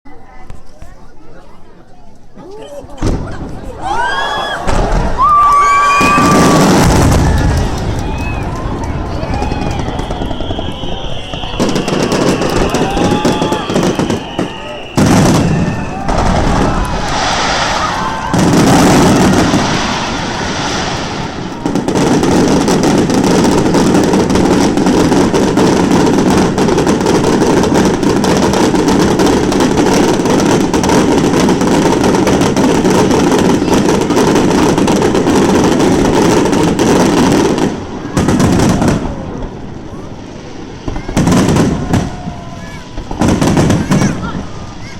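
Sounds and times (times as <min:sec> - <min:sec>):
fireworks barrage booms and cracks: 0:02.9 - 0:44.9.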